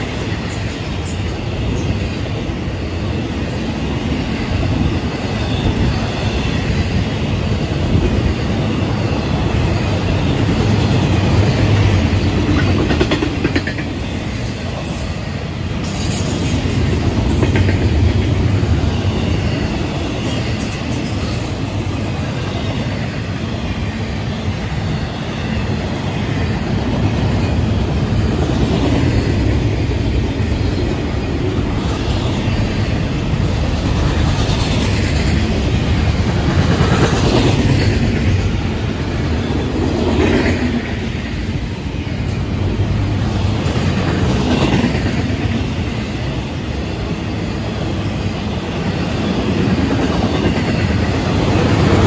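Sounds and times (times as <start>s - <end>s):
steel wheels clattering on rail: 0.0s - 52.0s.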